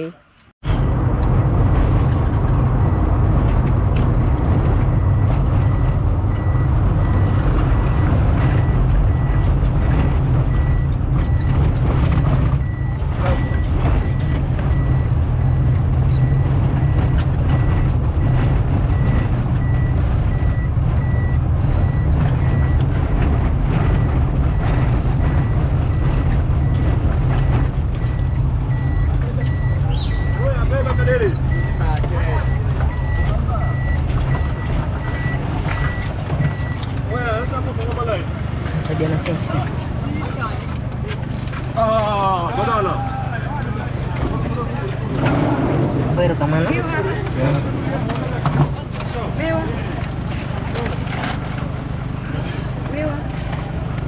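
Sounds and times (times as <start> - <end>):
road and wind noise: 0.0 - 54.0
vehicle engine rumbling: 0.0 - 54.0.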